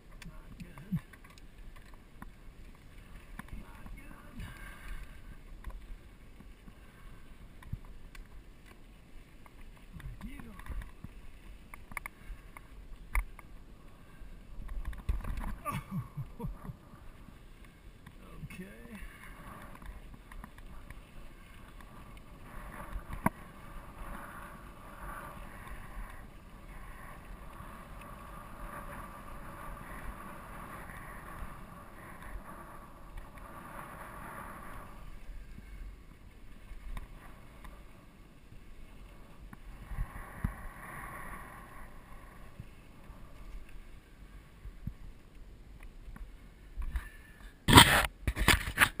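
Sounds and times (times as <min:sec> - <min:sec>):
bike tyres on dirt trail: 0:00.0 - 0:49.0.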